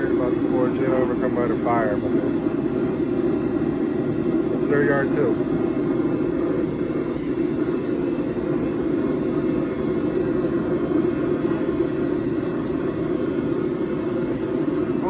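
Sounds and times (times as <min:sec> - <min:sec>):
forge rushing hum: 0:00.0 - 0:15.0.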